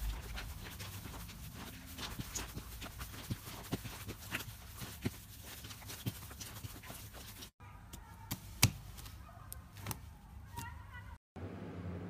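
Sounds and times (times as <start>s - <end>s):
hand squishing sticky slime: 0.0s - 10.6s.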